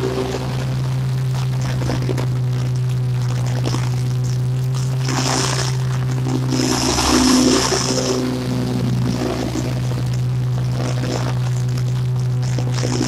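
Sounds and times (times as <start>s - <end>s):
riding mower engine: 0.0s - 13.0s.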